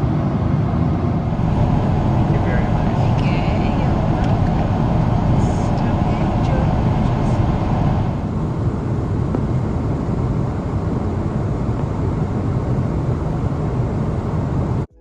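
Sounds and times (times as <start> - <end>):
airflow around fuselage: 0.0 - 14.9
jet engines rumbling in cabin: 0.0 - 14.9.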